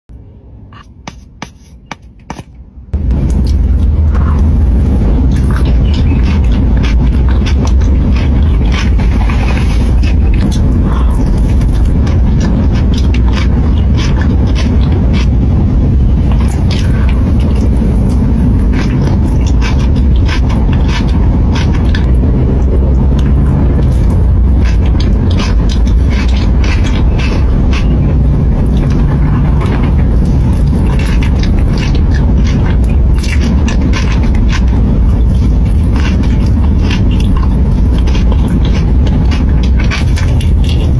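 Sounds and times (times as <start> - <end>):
steady low rumble: 0.1 - 40.9
eating ice cream close up: 2.9 - 40.9.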